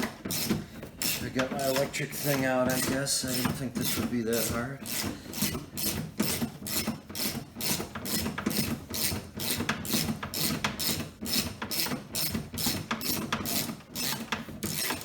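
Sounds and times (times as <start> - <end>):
socket ratchet clicking: 0.0 - 15.0.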